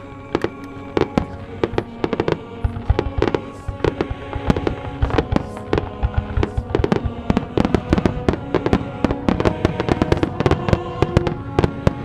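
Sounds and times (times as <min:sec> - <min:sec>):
music playing: 0:00.0 - 0:12.0
fireworks bangs and crackles: 0:00.4 - 0:12.0.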